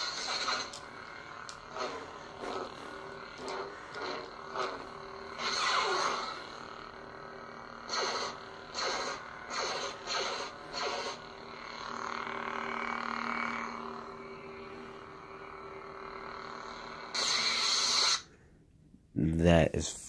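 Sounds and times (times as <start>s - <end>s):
lightsaber blade hum: 0.0s - 18.3s.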